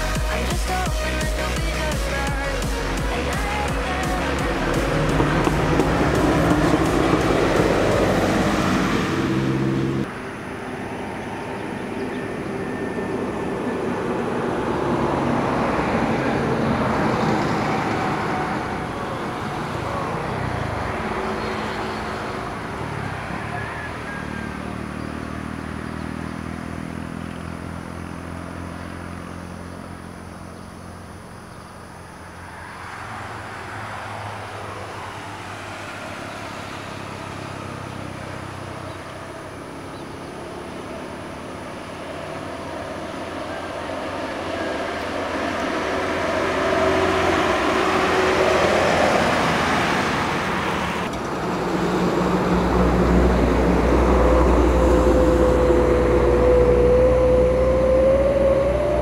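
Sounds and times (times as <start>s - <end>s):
deep engine sound: 0.0s - 32.3s, 33.3s - 59.0s
heavy vehicles passing: 0.0s - 59.0s.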